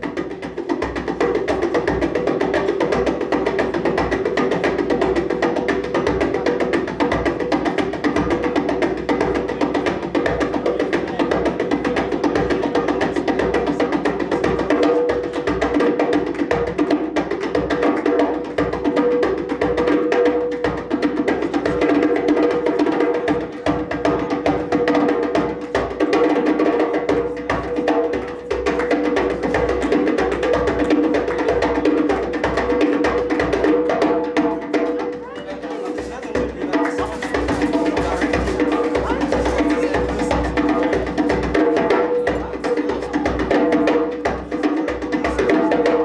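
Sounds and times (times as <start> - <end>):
djembe played by hand: 0.0 - 46.0.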